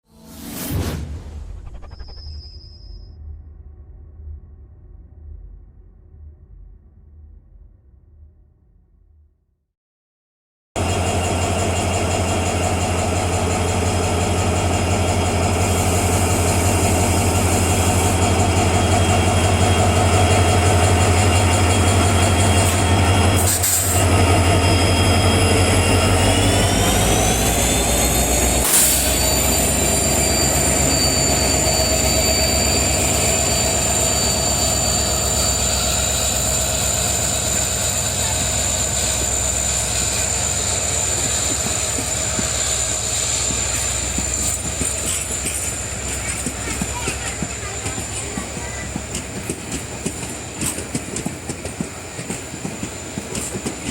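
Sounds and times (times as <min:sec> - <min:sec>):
train locomotive humming: 0:10.8 - 0:53.9.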